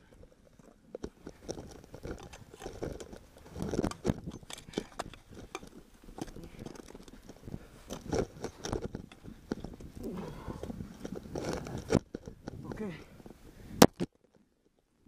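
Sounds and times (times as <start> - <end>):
snow crunching: 0.1 - 13.8.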